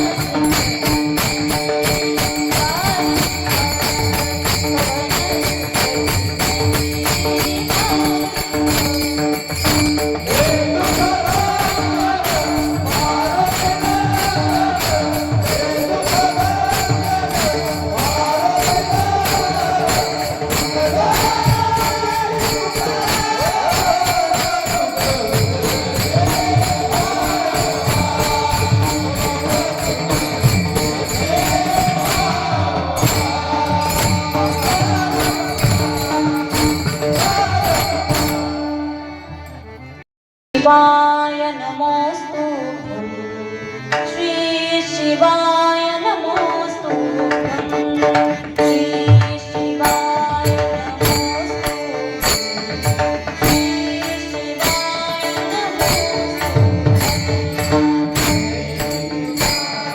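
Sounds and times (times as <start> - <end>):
drum beats: 0.0 - 38.7, 47.4 - 59.9
jingling cymbal strokes: 0.0 - 39.6, 48.3 - 59.9.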